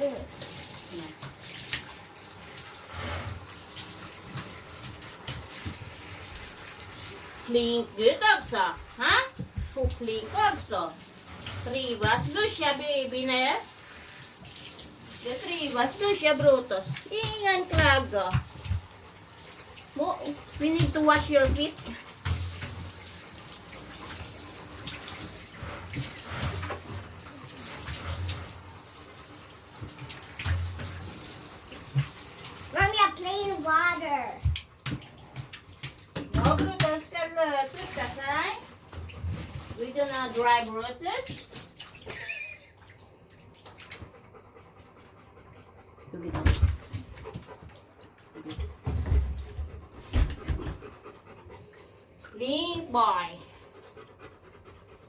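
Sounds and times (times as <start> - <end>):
running water splashing: 0.0 - 55.0.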